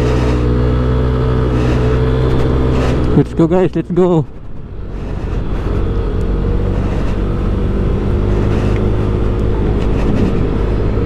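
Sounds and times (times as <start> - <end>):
rush of noise: 0.0 - 11.0
scooter engine cruising: 0.0 - 11.0.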